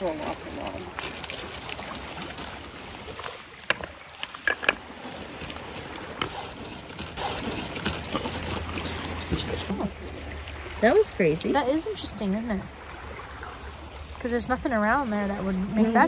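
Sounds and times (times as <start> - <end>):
waves lapping on stony shore: 0.0 - 16.0.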